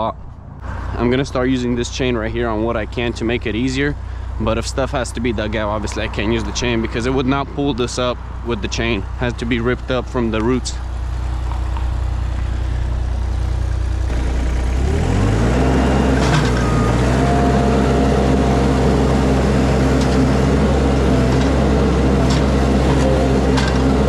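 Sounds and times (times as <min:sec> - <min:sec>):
skid steer engine revving: 0:00.6 - 0:24.0.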